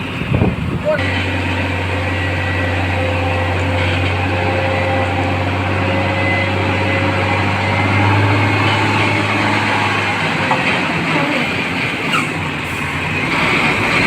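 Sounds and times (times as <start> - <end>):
truck engine droning with whine: 0.0 - 14.0.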